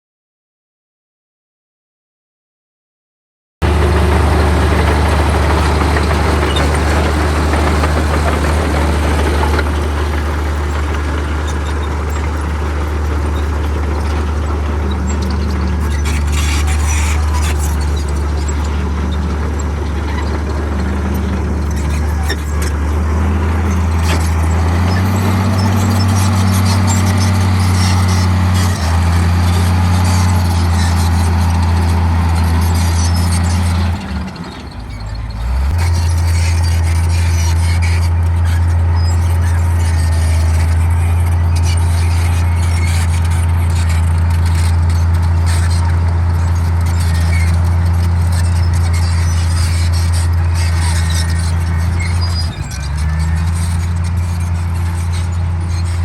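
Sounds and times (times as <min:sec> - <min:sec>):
bulldozer diesel engine running: 0:03.6 - 0:56.0.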